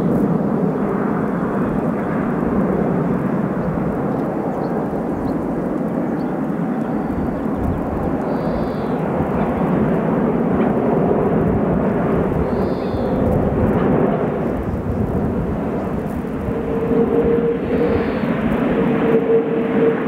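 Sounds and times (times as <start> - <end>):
jet engines rumbling overhead: 0.0 - 20.0.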